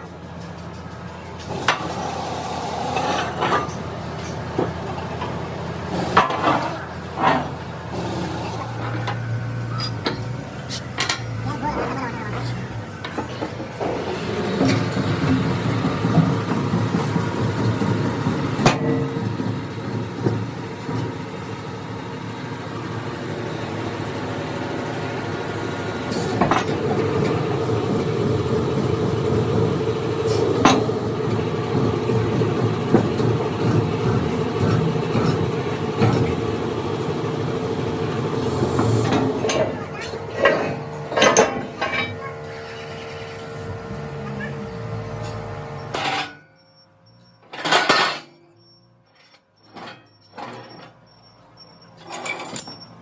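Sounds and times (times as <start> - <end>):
workshop machine humming: 0.0 - 47.6.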